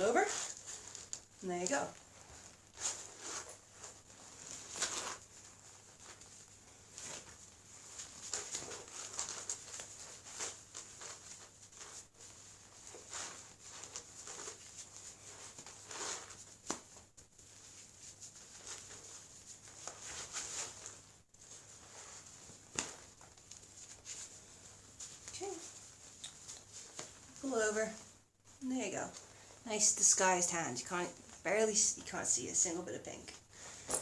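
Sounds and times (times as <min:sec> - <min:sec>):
cloth rustling and rubbing: 0:00.0 - 0:32.3, 0:33.4 - 0:34.0.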